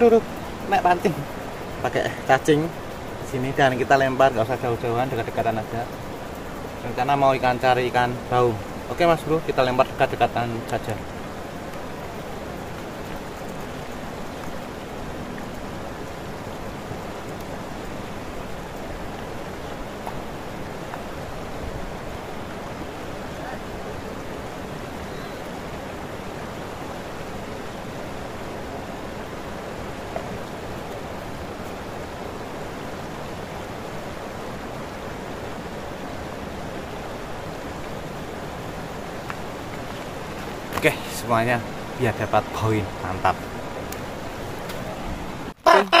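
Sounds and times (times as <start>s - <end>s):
flowing river water: 0.0s - 46.0s
steady rushing outdoor noise: 0.0s - 46.0s.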